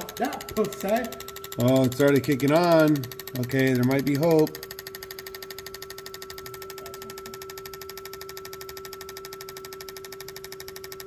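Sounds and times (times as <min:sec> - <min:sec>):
machine humming: 0:00.0 - 0:11.0
rapid even clicking: 0:00.0 - 0:11.0.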